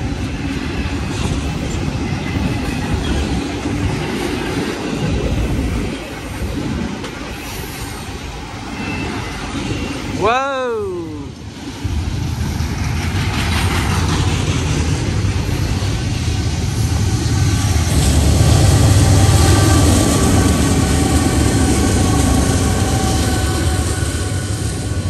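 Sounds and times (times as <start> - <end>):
freight train rumbling past: 0.0 - 25.0.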